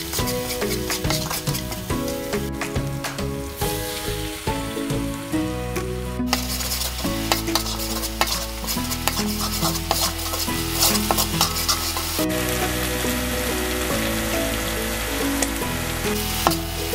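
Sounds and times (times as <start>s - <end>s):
metal spatula scraping wok: 0.0s - 13.9s, 16.0s - 16.9s
background music with held notes: 0.0s - 16.9s
chili paste sizzling in oil: 0.0s - 16.9s.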